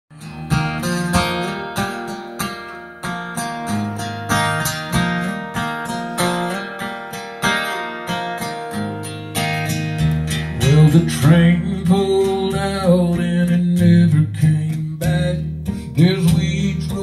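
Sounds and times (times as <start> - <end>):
acoustic guitar strumming: 0.1 - 17.0.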